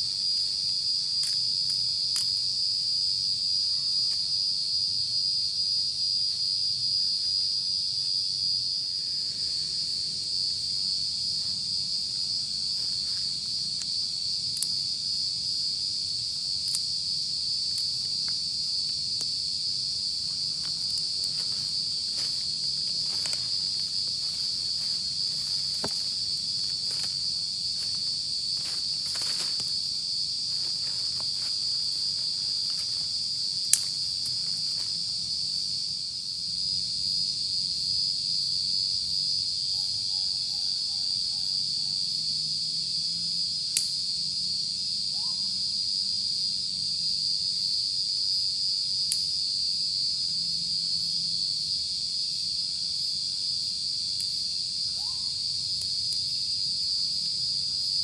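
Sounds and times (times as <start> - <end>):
night insects trilling: 0.0 - 58.0.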